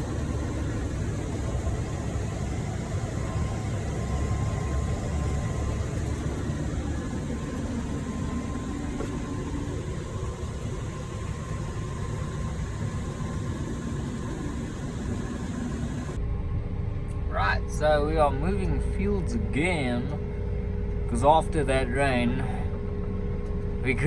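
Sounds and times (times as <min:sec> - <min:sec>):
vehicle engine drone: 0:00.0 - 0:24.0.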